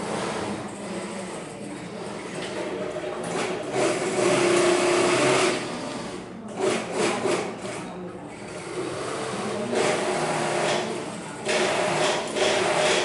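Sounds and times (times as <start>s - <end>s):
sewing machine stitching: 0.0s - 13.0s.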